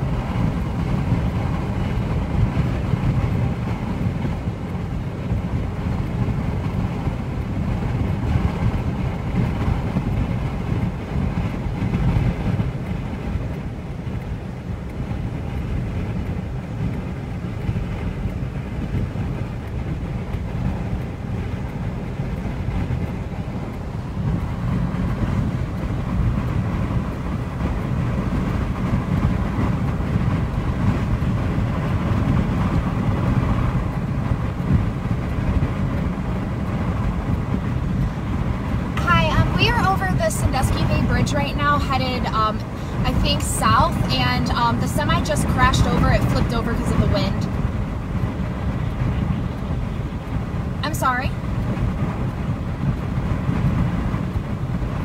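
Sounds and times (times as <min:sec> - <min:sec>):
car driving rumble inside cabin: 0:00.0 - 0:55.0
strong wind noise: 0:00.0 - 0:55.0.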